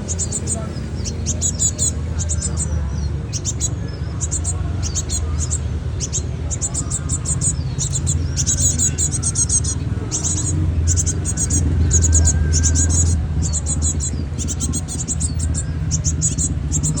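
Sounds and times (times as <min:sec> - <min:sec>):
bird chicks chirping: 0:00.0 - 0:17.0
low rumble: 0:00.0 - 0:17.0.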